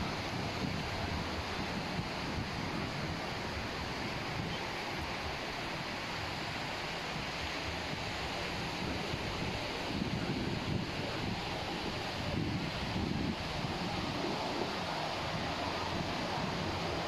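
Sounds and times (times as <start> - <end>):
surf washing on a beach: 0.0 - 17.0
wind buffeting the microphone: 0.0 - 17.0.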